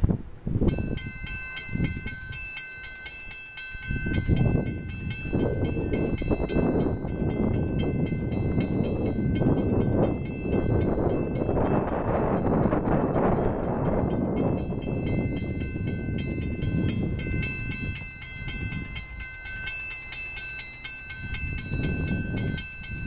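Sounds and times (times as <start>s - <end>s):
railroad crossing bell ringing: 0.6s - 23.0s.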